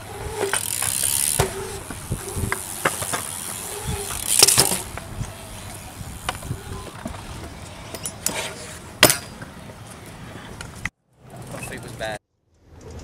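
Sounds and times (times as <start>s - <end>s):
wheels rolling and scraping on concrete: 0.0s - 13.0s.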